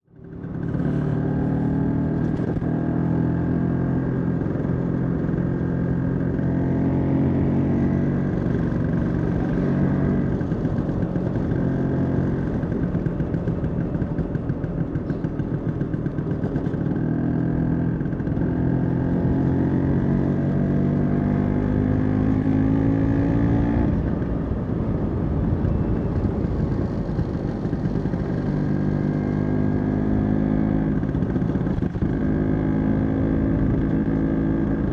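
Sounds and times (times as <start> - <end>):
scooter engine running: 0.2 - 21.2, 21.8 - 34.9.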